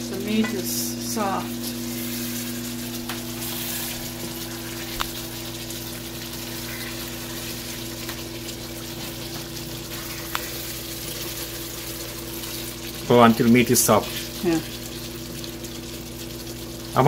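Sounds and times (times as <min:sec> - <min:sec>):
pots bubbling: 0:00.0 - 0:17.0.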